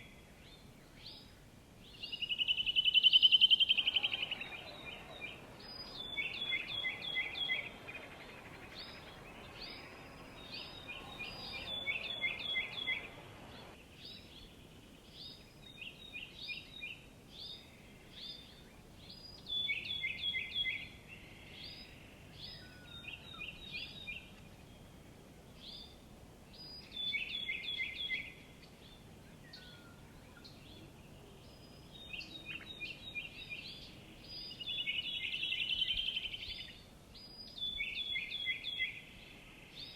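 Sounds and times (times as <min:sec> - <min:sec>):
low background noise: 0:00.0 - 0:39.9
small songbirds chirping: 0:00.0 - 0:39.9.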